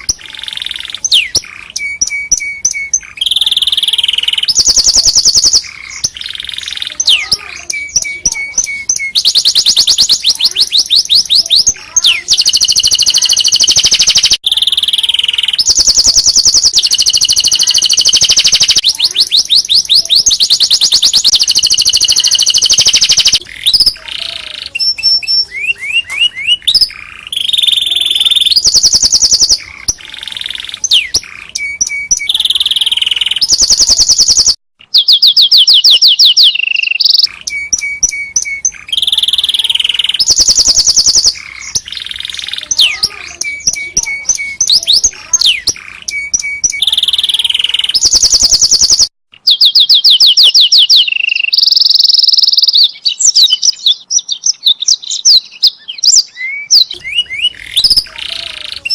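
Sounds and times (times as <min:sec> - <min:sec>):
canary singing trills and chirps: 0:00.0 - 0:58.9.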